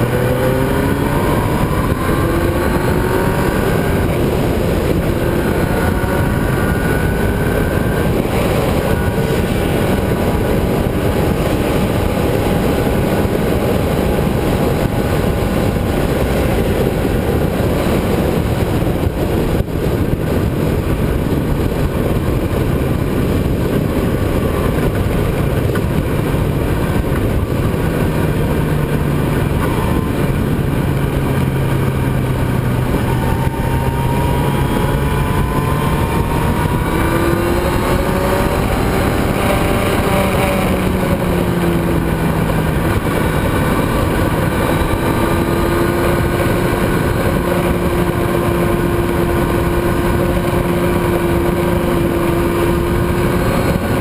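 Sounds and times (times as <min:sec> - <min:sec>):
motorcycle engine: 0:00.0 - 0:54.0
wind rushing: 0:00.0 - 0:54.0.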